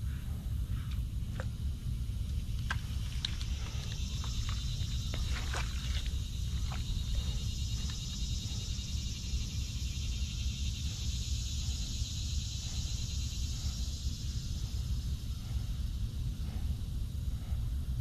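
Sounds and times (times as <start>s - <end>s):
high insect chorus: 0.0s - 18.0s
wind rumble on microphone: 0.0s - 18.0s.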